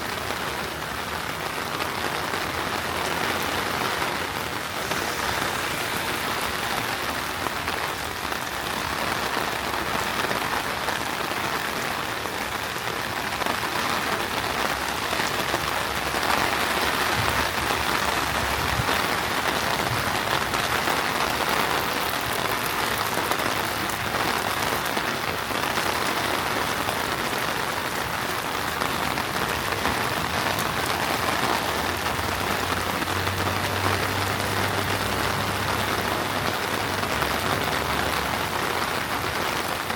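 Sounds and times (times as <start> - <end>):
heavy rain on pavement: 0.0 - 39.9.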